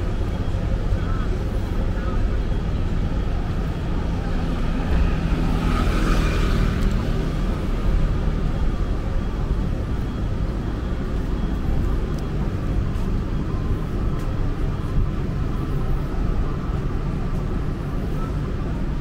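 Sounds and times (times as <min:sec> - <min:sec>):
steady traffic noise: 0:00.0 - 0:19.0.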